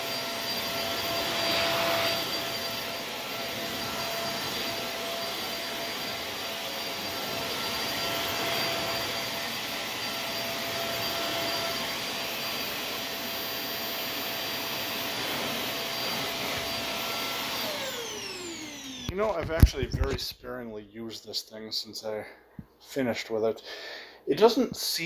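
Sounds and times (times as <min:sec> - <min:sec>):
vacuum cleaner on carpet: 0:00.0 - 0:20.3.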